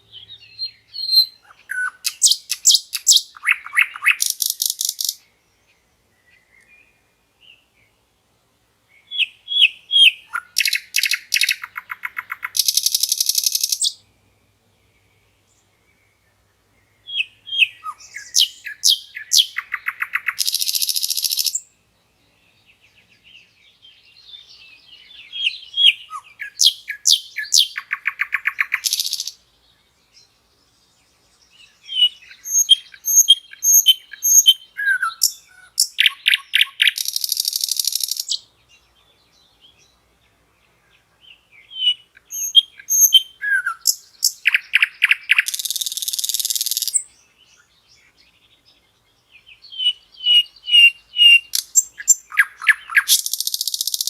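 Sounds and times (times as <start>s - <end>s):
nightingale singing: 0.0s - 8.2s, 8.8s - 54.0s.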